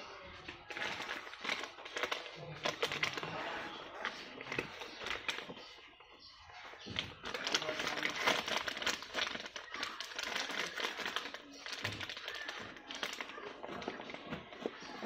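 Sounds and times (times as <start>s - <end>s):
insulated bag rustling and crinkling: 0.6s - 5.8s, 6.8s - 15.0s.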